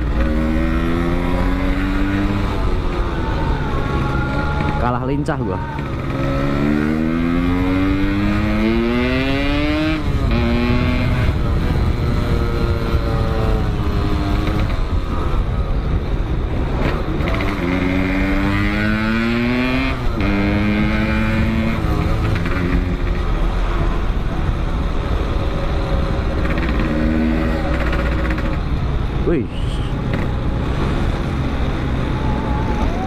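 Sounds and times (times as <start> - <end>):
motorcycle engine accelerating: 0.0 - 5.0, 5.6 - 29.3.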